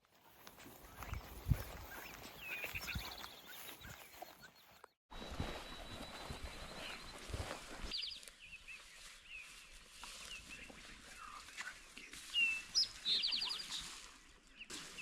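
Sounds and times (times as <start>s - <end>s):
small songbirds chirping and trilling: 0.3s - 15.0s.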